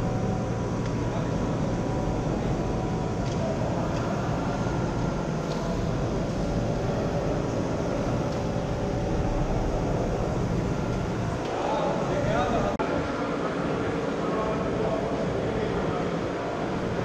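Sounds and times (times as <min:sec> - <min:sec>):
low rumble and hum of hall: 0:00.0 - 0:17.0.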